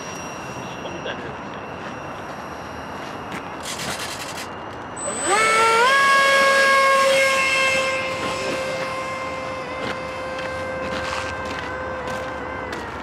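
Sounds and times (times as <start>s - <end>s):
electric ducted fan whine: 0.0s - 13.0s.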